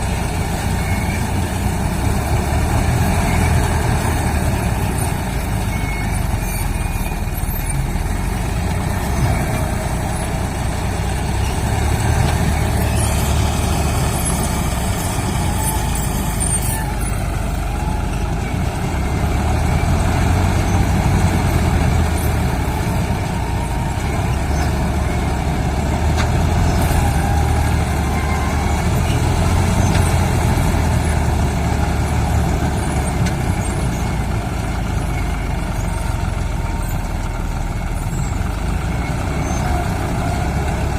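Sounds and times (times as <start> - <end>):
diesel machinery engine rumbling: 0.0 - 40.9.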